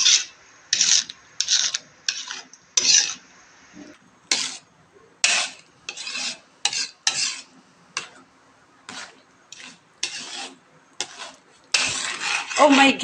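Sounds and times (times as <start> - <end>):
utensil scraping a pan: 0.0 - 3.3, 4.3 - 8.3, 8.9 - 13.0.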